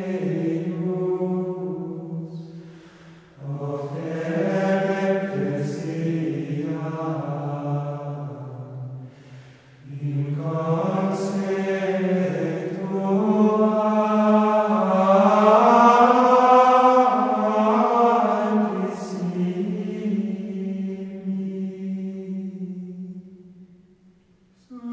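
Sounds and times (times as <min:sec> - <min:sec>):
low voices chanting: 0:00.0 - 0:23.6, 0:24.6 - 0:24.9.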